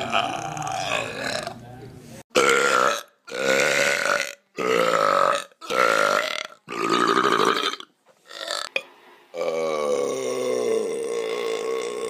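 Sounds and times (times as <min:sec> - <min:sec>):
person belching loudly: 0:00.0 - 0:01.6, 0:02.3 - 0:08.8, 0:09.4 - 0:12.0.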